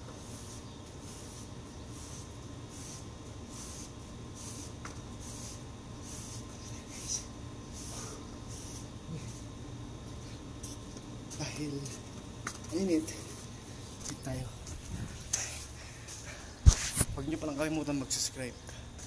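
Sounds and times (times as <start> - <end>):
broom sweeping paved floor: 0.0 - 18.3
steady low hum: 0.0 - 19.0.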